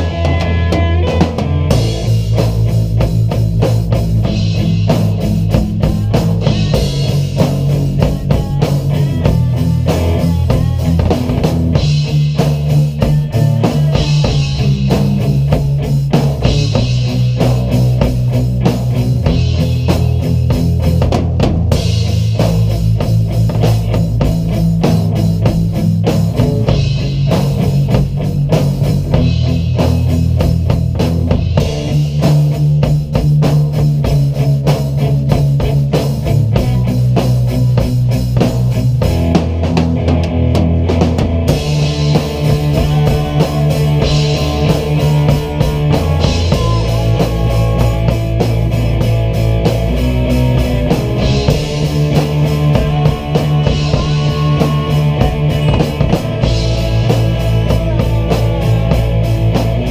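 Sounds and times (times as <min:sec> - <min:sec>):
amplified electric guitars: 0:00.0 - 0:59.9
bass line: 0:00.0 - 0:59.9
drum kit with cymbals: 0:00.0 - 0:59.9.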